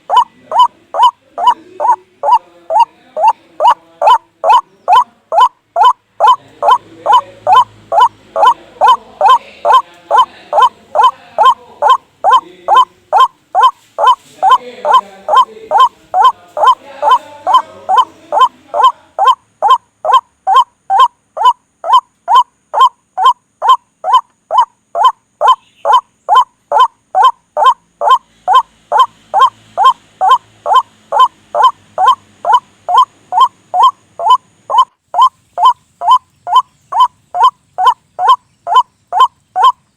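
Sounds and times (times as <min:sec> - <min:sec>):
harsh honking bird call: 0:00.0 - 0:24.3, 0:25.0 - 0:34.9.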